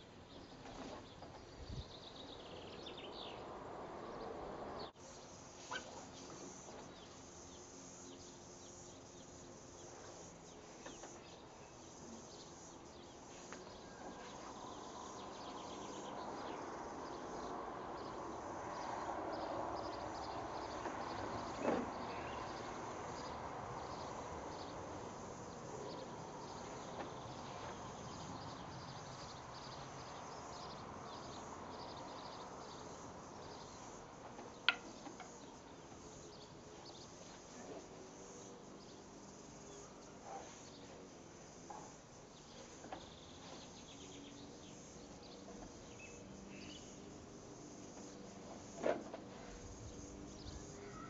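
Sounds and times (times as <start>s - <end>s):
insects chirping: 0.0s - 51.0s.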